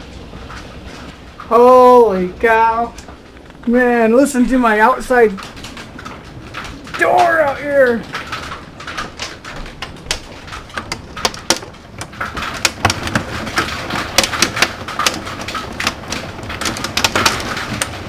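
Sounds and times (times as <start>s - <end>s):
hailstones hitting a door: 0.0s - 18.0s
storm noise rushing: 0.0s - 18.0s.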